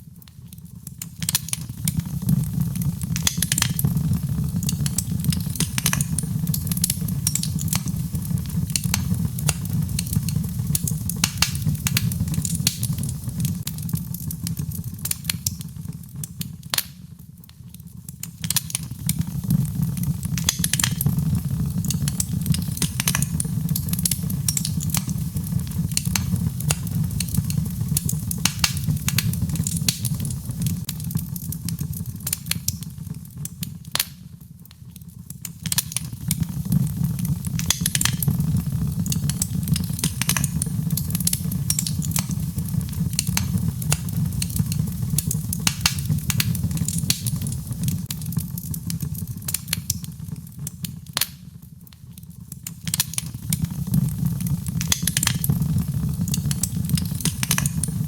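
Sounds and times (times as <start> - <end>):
fire crackling and popping: 0.0 - 58.0
low rumble of flames: 0.1 - 58.0.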